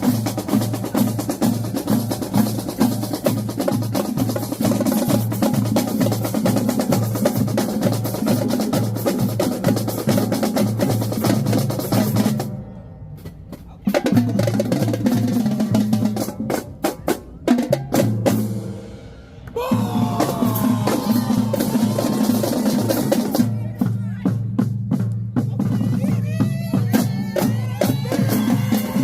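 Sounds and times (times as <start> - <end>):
drumline snare and bass drums: 0.0 - 19.0, 19.6 - 29.0.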